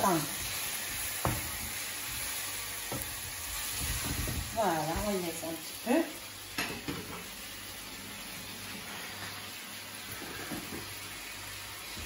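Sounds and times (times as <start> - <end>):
fruit sizzling in a frying pan: 0.0 - 12.0.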